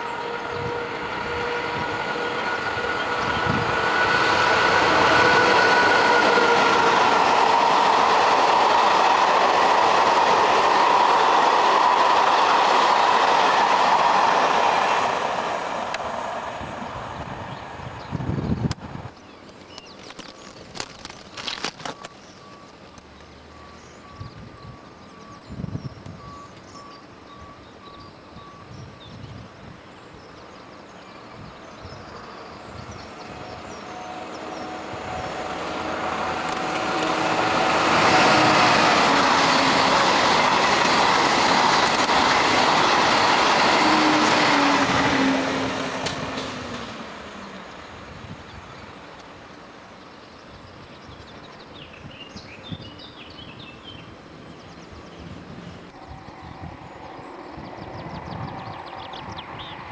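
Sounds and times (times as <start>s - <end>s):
high-speed train passing: 0.0s - 19.4s, 21.9s - 59.9s.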